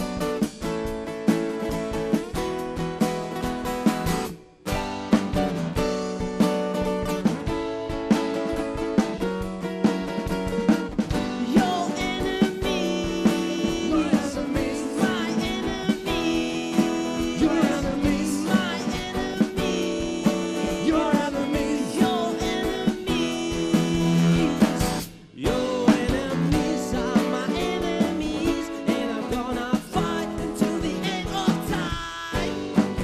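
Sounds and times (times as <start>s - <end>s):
live band music with guitar: 0.0s - 33.0s.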